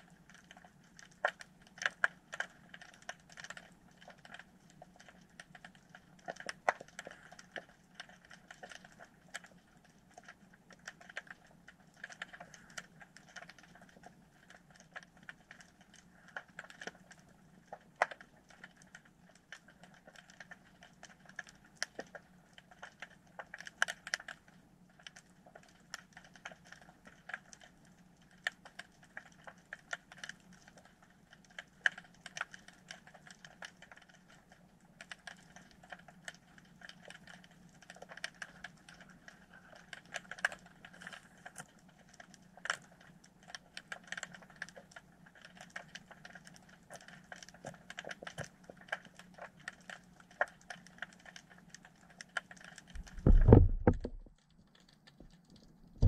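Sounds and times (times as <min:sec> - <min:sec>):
underwater clicks and crackles: 0:00.0 - 0:56.0.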